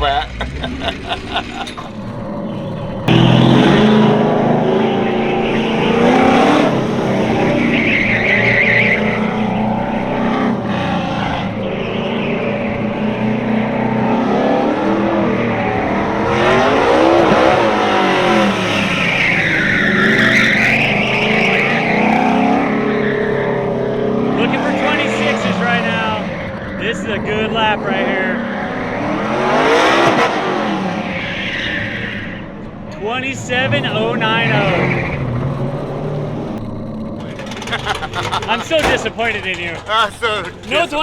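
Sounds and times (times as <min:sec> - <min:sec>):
tires squealing: 0:00.0 - 0:41.0
truck engine revving: 0:00.0 - 0:41.0.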